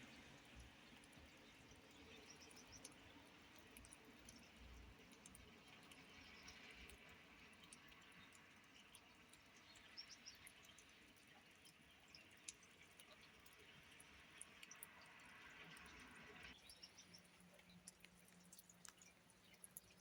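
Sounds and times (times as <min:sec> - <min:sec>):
small ticks: 0:00.0 - 0:20.0.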